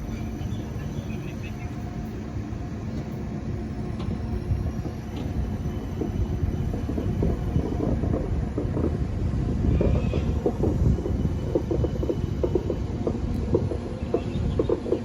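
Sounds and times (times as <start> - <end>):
tram rattling: 0.0 - 15.0
tram rumbling on track: 0.0 - 15.0.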